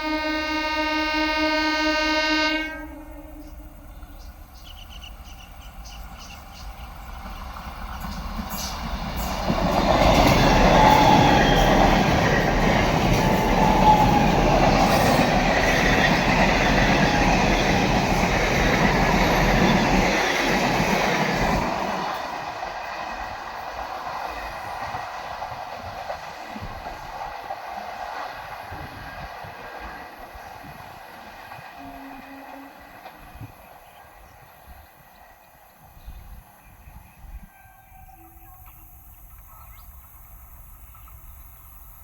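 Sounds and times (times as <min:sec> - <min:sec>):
train passing on rails: 0:00.0 - 0:42.0.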